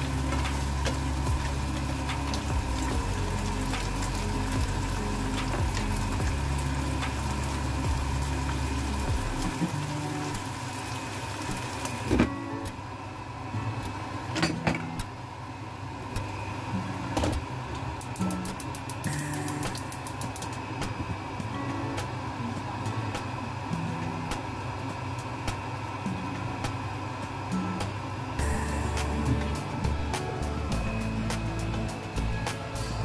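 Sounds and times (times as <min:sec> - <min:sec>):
gas hob low hum: 0:00.0 - 0:33.0.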